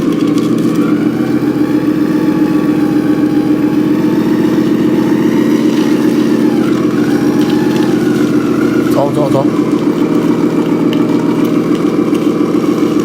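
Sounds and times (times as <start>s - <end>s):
steady engine drone: 0.0s - 13.0s.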